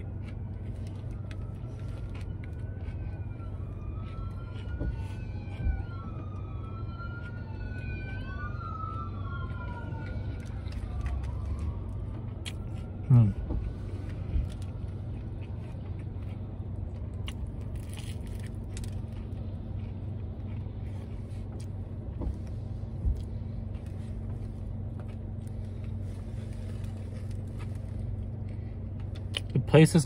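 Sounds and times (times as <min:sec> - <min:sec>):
soft chewing and crunches: 0:00.0 - 0:30.0.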